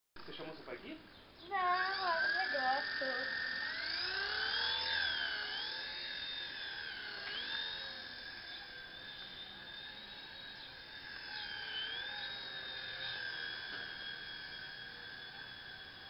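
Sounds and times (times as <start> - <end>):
toy helicopter rotor whining: 0.2 - 16.0.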